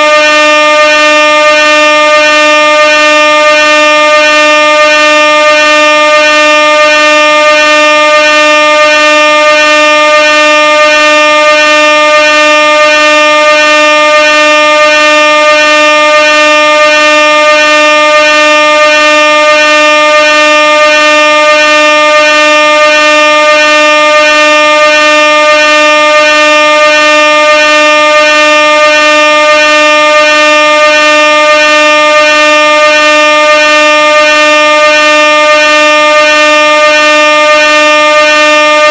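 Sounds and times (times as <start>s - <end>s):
air horn steady note: 0.0s - 38.9s.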